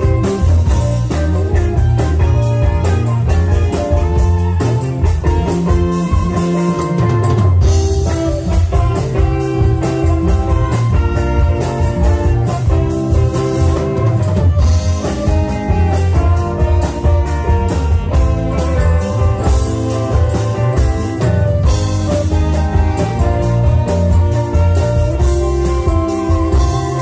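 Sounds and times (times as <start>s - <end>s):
bass guitar: 0.0s - 27.0s
drum kit steady beat: 0.0s - 27.0s
electric guitar: 0.0s - 27.0s
electric keyboard: 0.0s - 27.0s
tenor saxophone: 0.0s - 27.0s.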